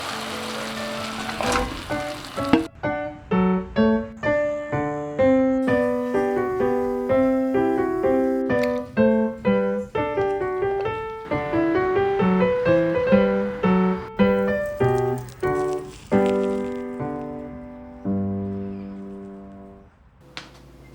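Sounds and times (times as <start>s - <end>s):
piano melody: 0.0s - 19.8s.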